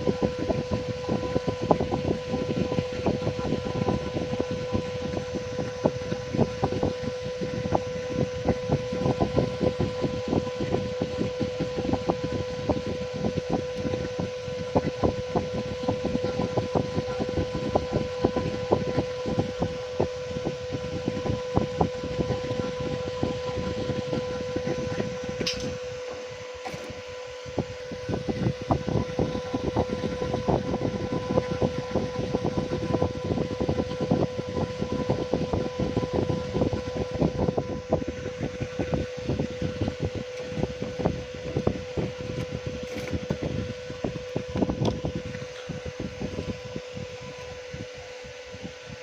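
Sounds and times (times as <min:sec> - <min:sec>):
steady high-pitched hum: 0:00.0 - 0:49.0.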